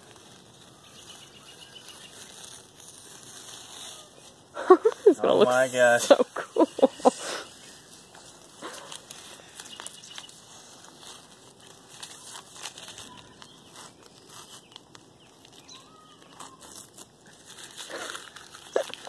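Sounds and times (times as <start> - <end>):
tape peeling and crackling: 0.0 - 6.7, 7.5 - 19.0.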